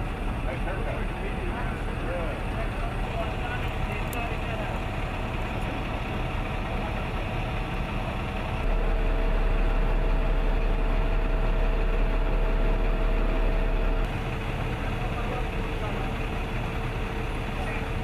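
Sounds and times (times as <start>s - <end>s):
fuel pump hum: 0.0s - 18.0s
truck engine idling: 0.0s - 18.0s.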